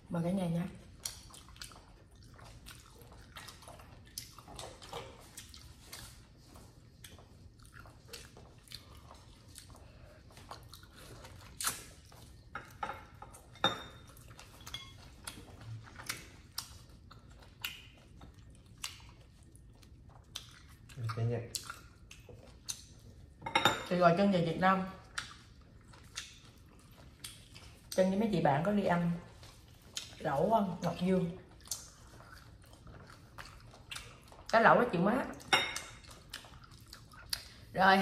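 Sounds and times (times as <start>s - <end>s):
chewing and mouth smacks: 0.8s - 23.4s, 25.0s - 28.1s, 29.2s - 30.3s, 31.3s - 34.6s, 35.3s - 37.7s.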